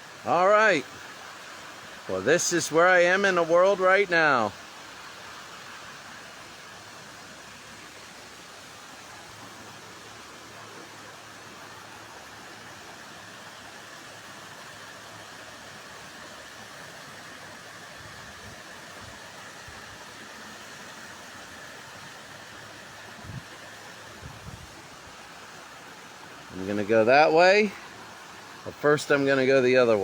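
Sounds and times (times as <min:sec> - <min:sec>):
outdoor rushing hiss: 0:00.0 - 0:30.0.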